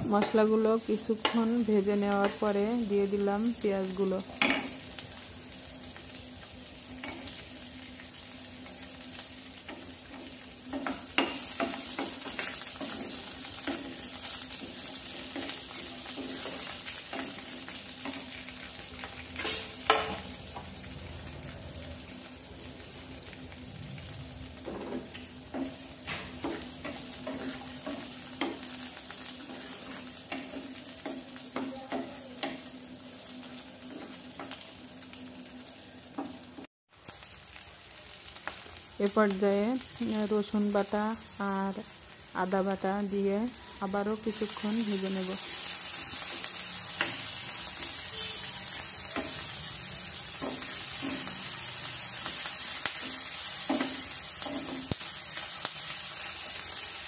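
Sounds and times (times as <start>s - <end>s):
onions sizzling in hot oil: 0.0s - 57.0s.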